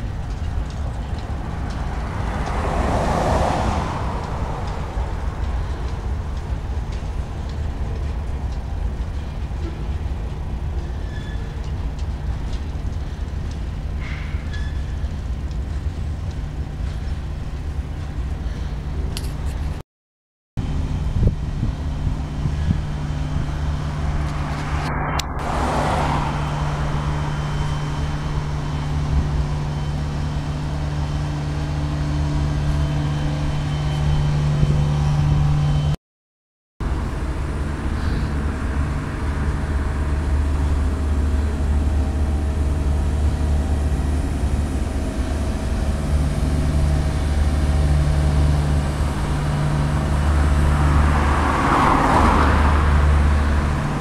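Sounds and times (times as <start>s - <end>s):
freight train rumbling past: 0.0s - 19.7s, 20.6s - 36.0s, 36.8s - 54.0s.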